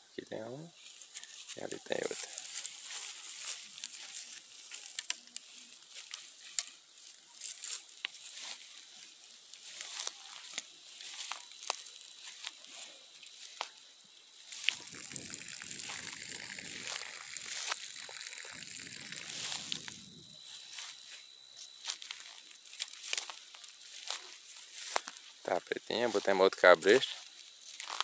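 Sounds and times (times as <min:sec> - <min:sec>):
rustling in dry grass: 0:00.7 - 0:28.0.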